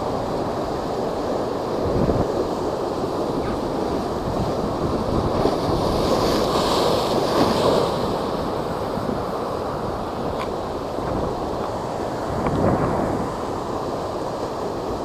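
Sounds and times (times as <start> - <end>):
storm waves crashing: 0.0 - 15.0
wind buffeting microphone: 0.0 - 15.0.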